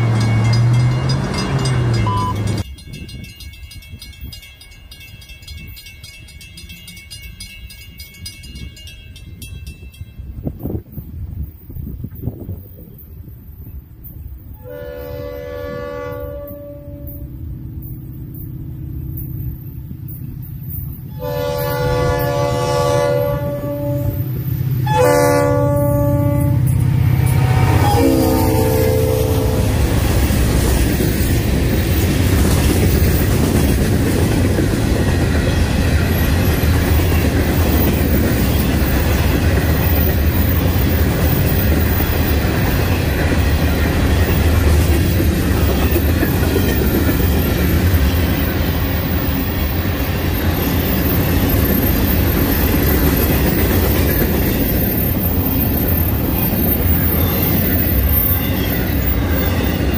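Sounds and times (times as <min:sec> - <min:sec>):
freight train wheels rolling on rails: 0:00.0 - 0:59.9.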